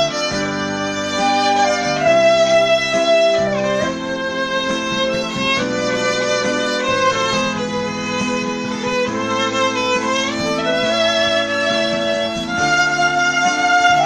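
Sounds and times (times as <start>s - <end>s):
sustained chords: 0.0s - 14.0s
violin ballad melody: 0.0s - 14.0s.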